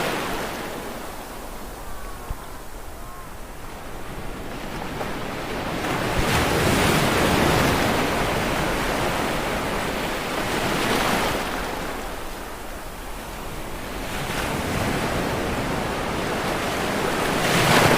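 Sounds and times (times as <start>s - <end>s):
sea waves breaking on shore: 0.0s - 17.9s.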